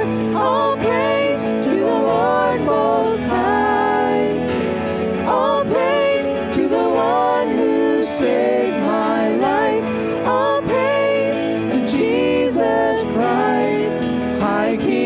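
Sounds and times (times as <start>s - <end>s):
man and woman singing: 0.0s - 15.0s
worship band playing: 0.0s - 15.0s.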